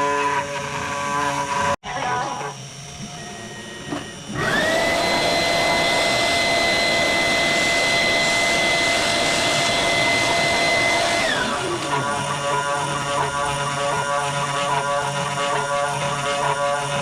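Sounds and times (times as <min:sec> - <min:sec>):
electric fan motor whining: 0:00.0 - 0:17.0.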